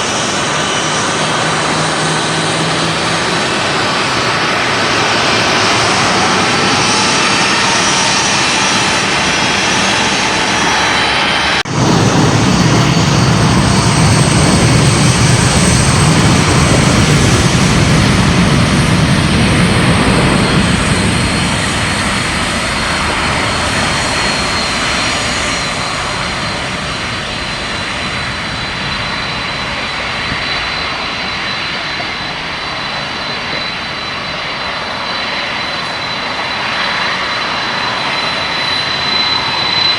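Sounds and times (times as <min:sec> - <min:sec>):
deep jet engine rumble: 0:00.0 - 0:39.9
jet engines whining: 0:00.0 - 0:39.9.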